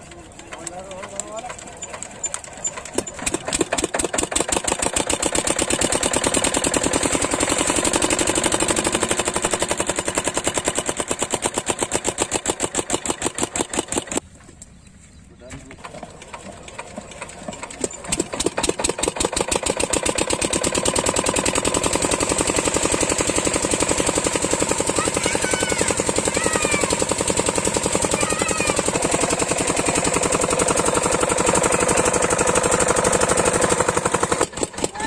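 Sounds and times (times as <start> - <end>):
diesel engine knocking: 0.0 - 14.2, 15.8 - 35.0.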